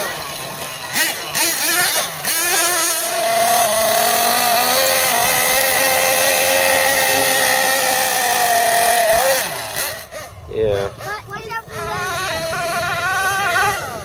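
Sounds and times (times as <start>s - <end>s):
high-pitched nitro engine whine: 0.0s - 14.0s.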